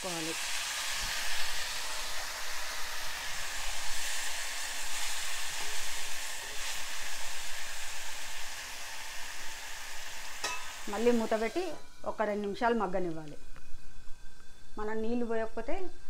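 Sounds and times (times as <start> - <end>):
food sizzling in hot oil: 0.0 - 16.0
water steaming off: 0.0 - 16.0.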